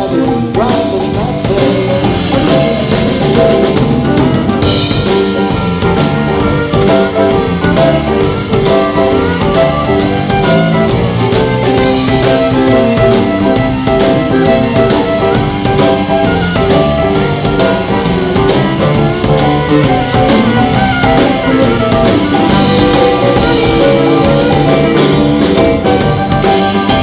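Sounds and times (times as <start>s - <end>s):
drum kit steady beat: 0.0s - 27.0s
live band playing: 0.0s - 27.0s.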